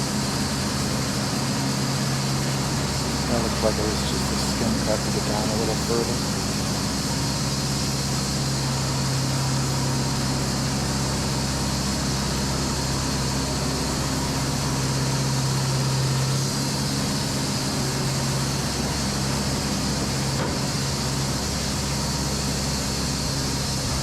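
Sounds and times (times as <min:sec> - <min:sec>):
sawmill machinery running: 0:00.0 - 0:24.0.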